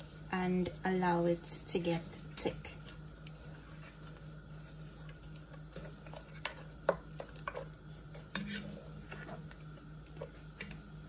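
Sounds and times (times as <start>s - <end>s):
spoon stirring wet filling: 0.0s - 10.8s
steady low hum: 0.0s - 11.0s.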